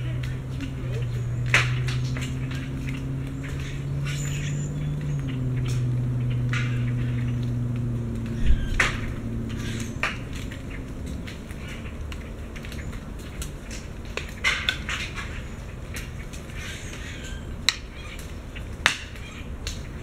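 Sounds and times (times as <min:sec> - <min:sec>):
low hum: 0:00.0 - 0:18.8
acorns dropping through leaves: 0:00.0 - 0:20.0.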